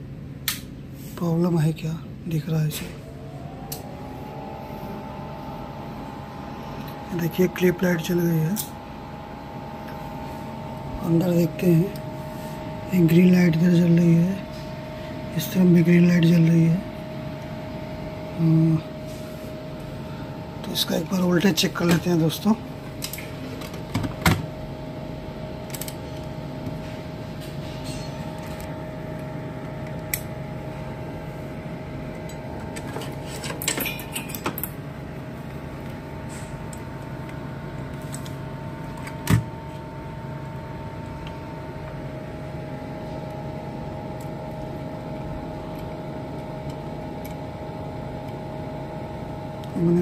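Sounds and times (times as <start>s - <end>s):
cooling fans humming and whining: 0.0s - 50.0s.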